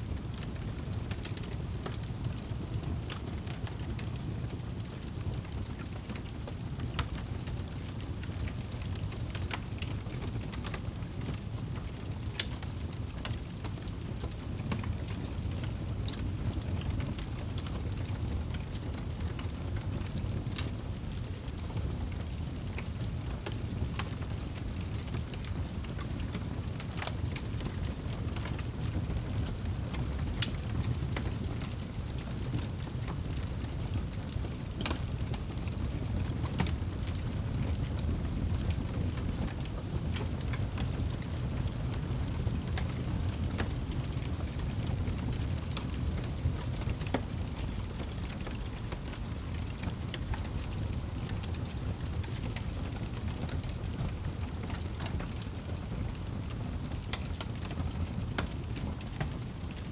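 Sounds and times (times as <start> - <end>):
low rumble of burning fire: 0.0 - 59.9.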